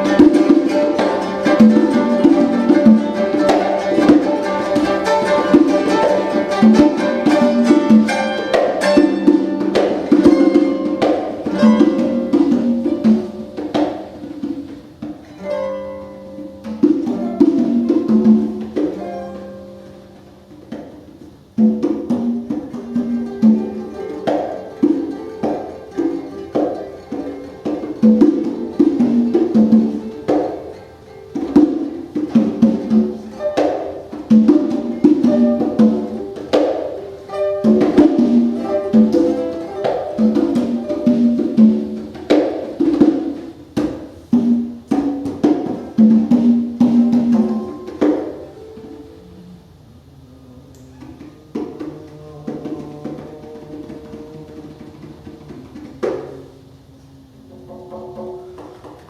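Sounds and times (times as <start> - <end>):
hand drum strokes: 0.0 - 59.0
plucked string notes: 0.0 - 59.0.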